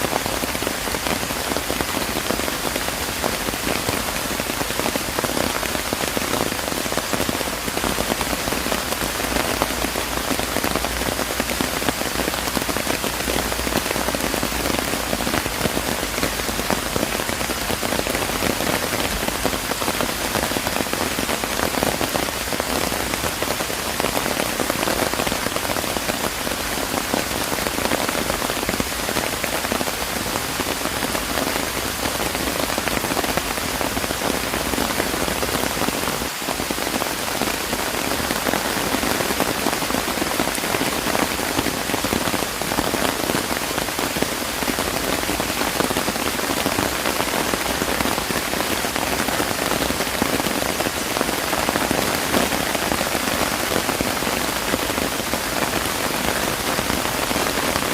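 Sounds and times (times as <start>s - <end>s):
rain pattering on surfaces: 0.0s - 57.9s.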